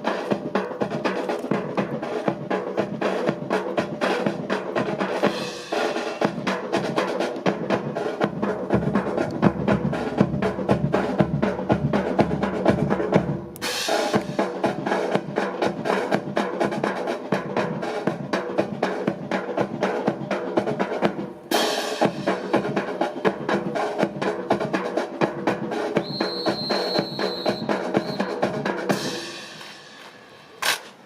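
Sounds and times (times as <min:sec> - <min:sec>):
snare drum rolls: 0:00.0 - 0:31.0.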